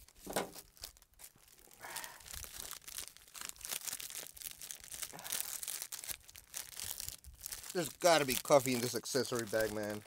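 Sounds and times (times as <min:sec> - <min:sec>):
plastic packets crinkling: 0:00.0 - 0:10.0.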